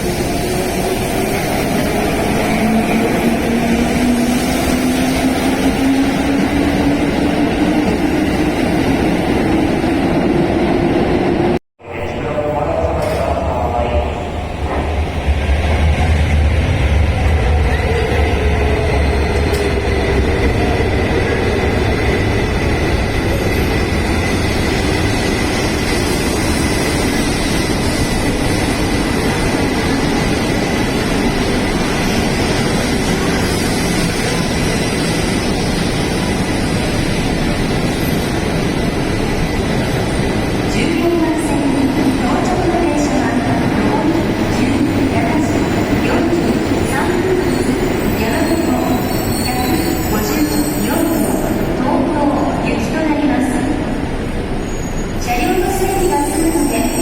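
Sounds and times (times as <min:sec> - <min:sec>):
electric train rumble: 0:00.0 - 0:57.0.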